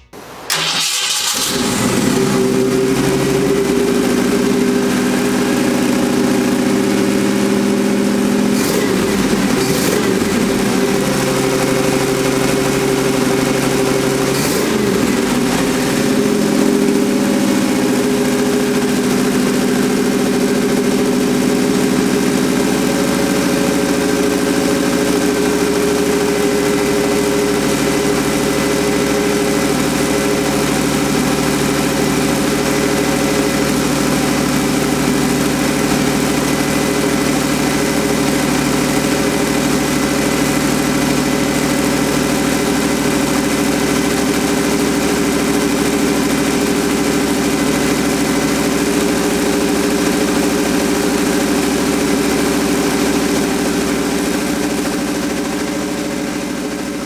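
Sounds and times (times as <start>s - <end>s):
pickup engine idling: 0.0s - 57.0s.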